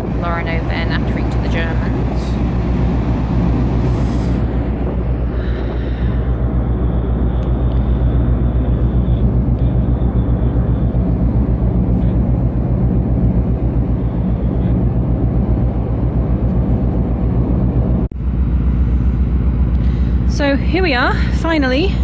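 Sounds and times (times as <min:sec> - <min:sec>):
ship engine drone: 0:00.0 - 0:22.0.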